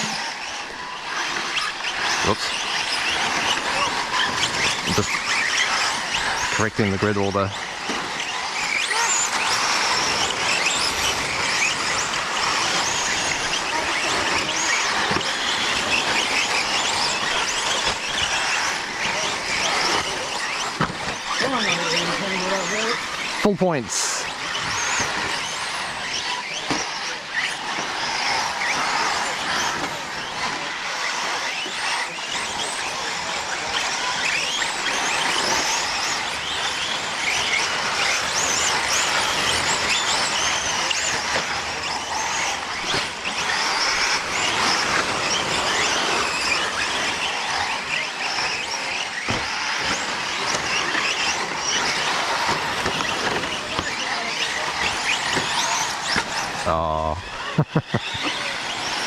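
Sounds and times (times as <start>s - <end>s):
electric motor whines: 0.0s - 59.0s
tyres on dirt: 0.0s - 59.0s.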